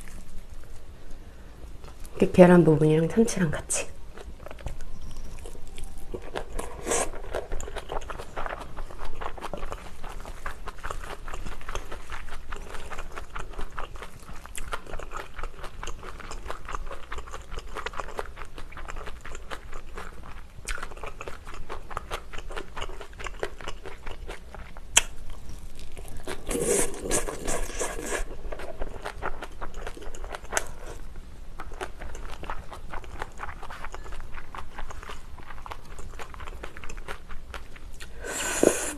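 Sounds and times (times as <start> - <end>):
close chewing and biting: 4.1 - 38.9.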